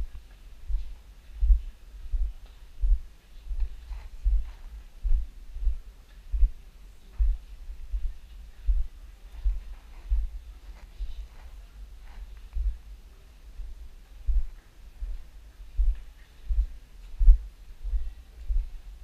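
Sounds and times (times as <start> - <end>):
footsteps as low thuds: 0.0 - 19.0.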